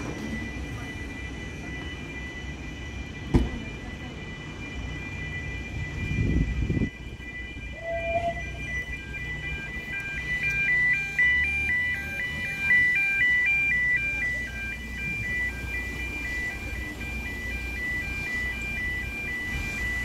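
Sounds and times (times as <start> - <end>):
level crossing warning alarm: 0.0 - 20.0.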